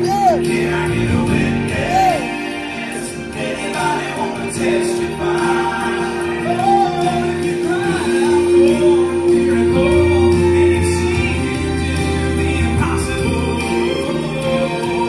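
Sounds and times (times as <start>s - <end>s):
acoustic guitar: 0.0s - 15.0s
person singing gospel: 0.0s - 15.0s.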